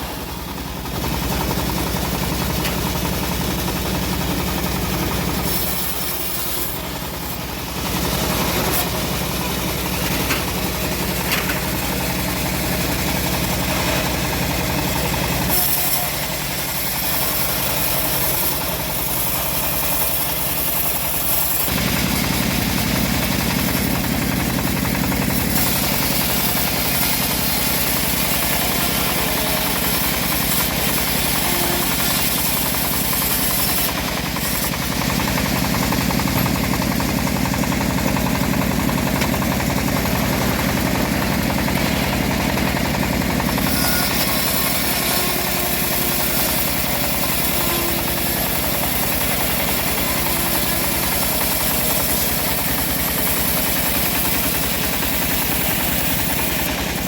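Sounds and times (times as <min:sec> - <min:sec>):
engine-driven bandsaw sawing wood: 0:00.0 - 0:57.0.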